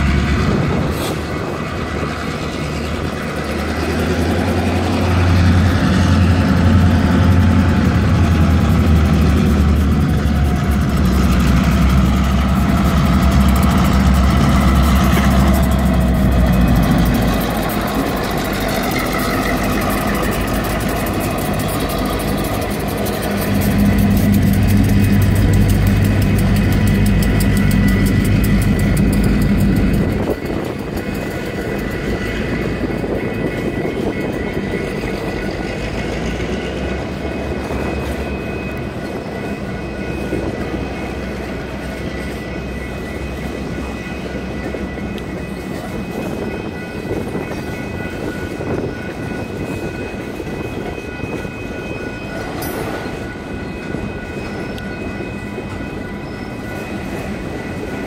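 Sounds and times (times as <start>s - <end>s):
crossing bell ringing: 0.0s - 58.0s
diesel locomotive engine rumble: 0.0s - 58.0s
freight cars wheel and rail noise: 0.0s - 58.0s.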